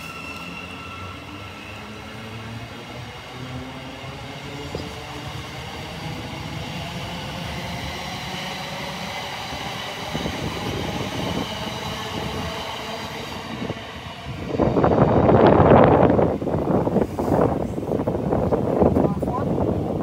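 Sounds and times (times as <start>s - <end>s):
train low rumble: 0.0s - 20.0s.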